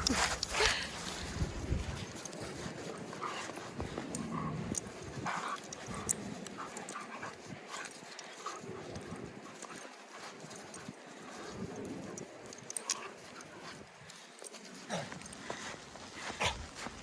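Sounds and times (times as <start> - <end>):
dogs panting: 0.0 - 17.0.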